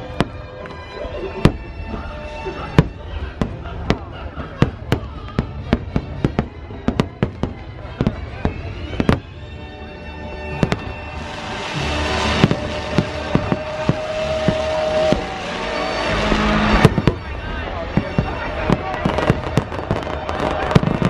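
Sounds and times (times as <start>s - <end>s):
fireworks bangs: 0.0s - 0.8s, 1.4s - 21.0s
fireworks hissing crackle: 0.0s - 21.0s
music playing: 0.0s - 21.0s.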